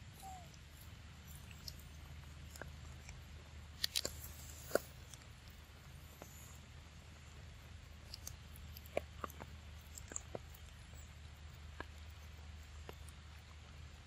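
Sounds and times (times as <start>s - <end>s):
monkey crunching fruit: 0.0s - 6.8s, 7.4s - 14.0s.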